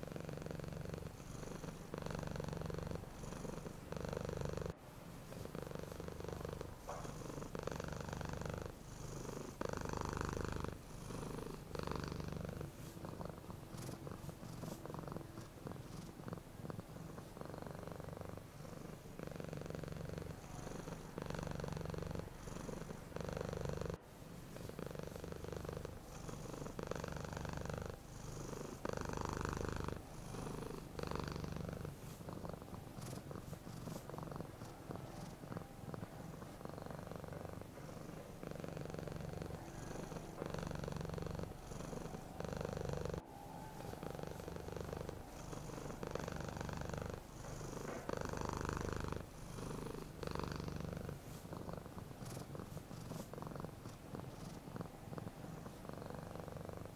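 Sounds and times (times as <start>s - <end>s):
cat purring: 0.0s - 56.9s.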